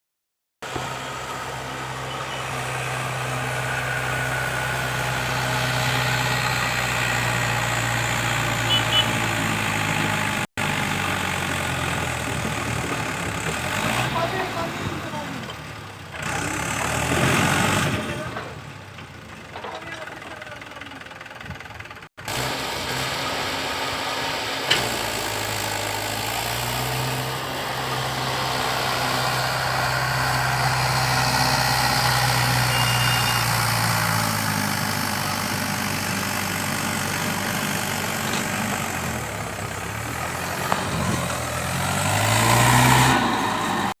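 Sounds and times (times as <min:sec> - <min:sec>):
tractor diesel engine running: 0:00.6 - 0:44.0.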